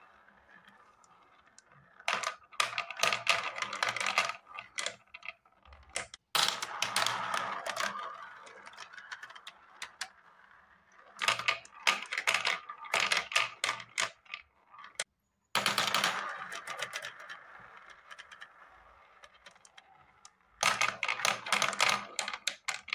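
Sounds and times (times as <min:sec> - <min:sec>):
marbles clattering on plastic: 0:00.0 - 0:22.9
marbles rolling in a bowl: 0:00.0 - 0:22.9.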